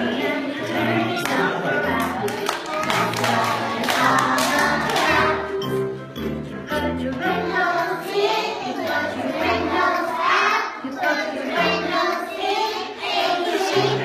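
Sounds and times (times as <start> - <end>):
young children singing: 0.0 - 5.8, 6.7 - 14.0
musical accompaniment: 0.0 - 14.0.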